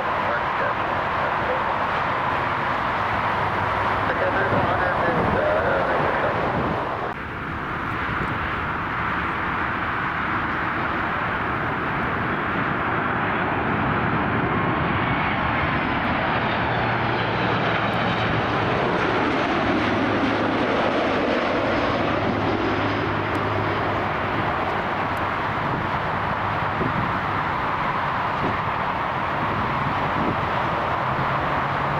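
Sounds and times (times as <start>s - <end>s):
jet engines running: 0.0s - 31.9s.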